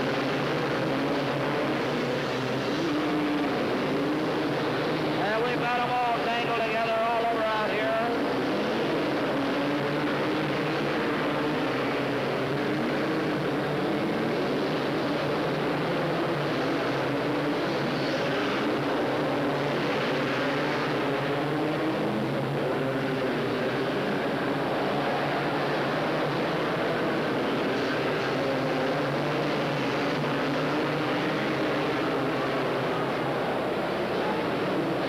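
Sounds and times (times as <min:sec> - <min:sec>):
racing atv engines revving: 0:00.0 - 0:35.0.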